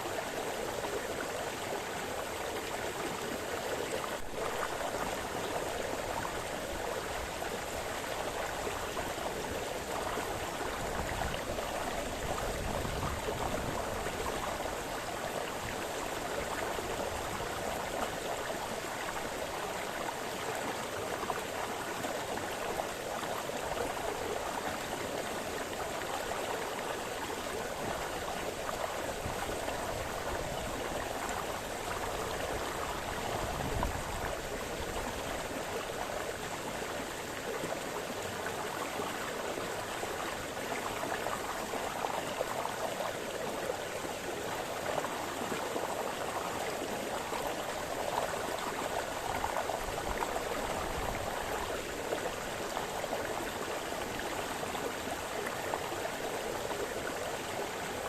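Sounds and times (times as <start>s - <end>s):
brook burbling over stones: 0.0s - 58.0s.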